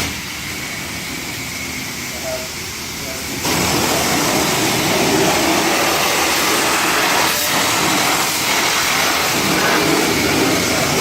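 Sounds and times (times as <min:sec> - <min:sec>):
pressure washer spray hissing: 0:00.0 - 0:11.0.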